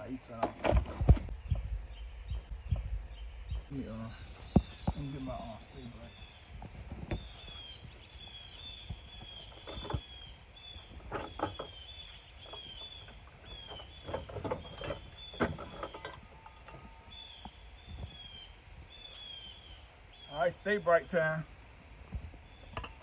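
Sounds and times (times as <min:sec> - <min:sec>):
bird chirping: 0:00.0 - 0:21.4, 0:22.1 - 0:23.0.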